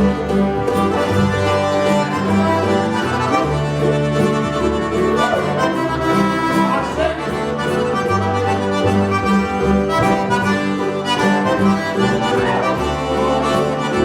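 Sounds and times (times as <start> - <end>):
accordion: 0.0 - 14.0
fiddle: 0.0 - 14.0.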